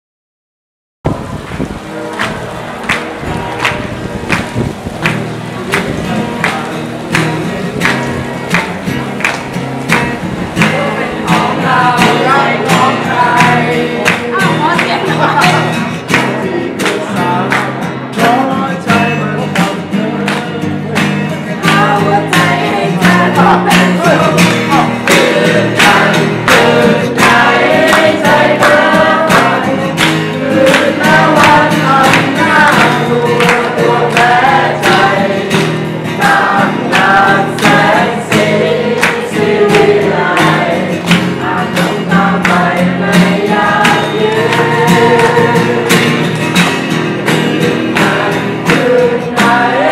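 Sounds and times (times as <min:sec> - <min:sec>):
song with voices and beat: 0:02.1 - 0:49.9.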